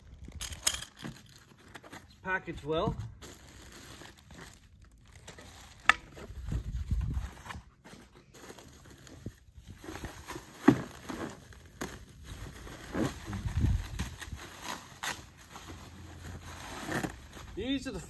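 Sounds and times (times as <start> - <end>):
plastic and cardboard rustling: 0.0 - 18.0.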